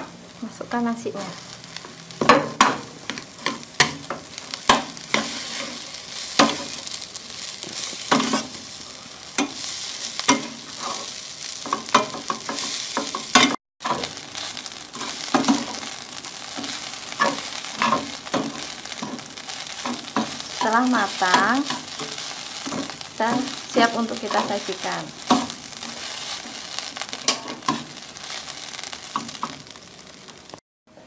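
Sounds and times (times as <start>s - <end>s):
rice sizzling in a pan: 0.0s - 30.6s
spatula scraping pan: 1.3s - 7.0s, 7.6s - 29.6s.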